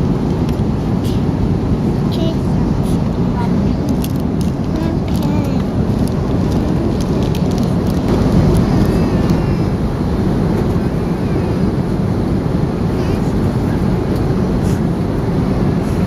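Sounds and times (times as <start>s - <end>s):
airliner cabin engine rumble: 0.0s - 16.0s
rushing air: 0.0s - 16.0s.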